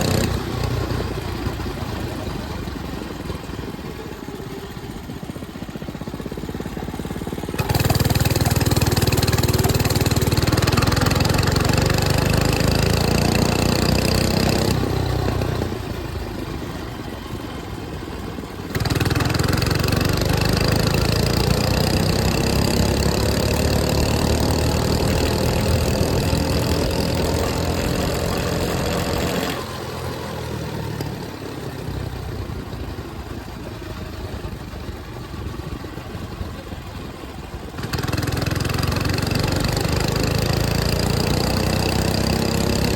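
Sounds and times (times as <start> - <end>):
mini bike engine revving: 0.0 - 42.9.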